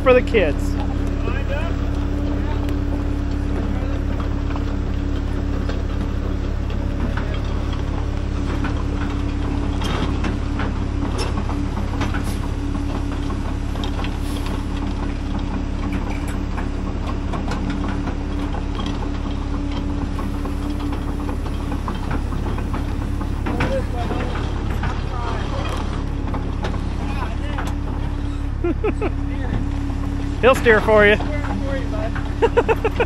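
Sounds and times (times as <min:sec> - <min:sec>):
diesel engines idling: 0:00.0 - 0:33.0.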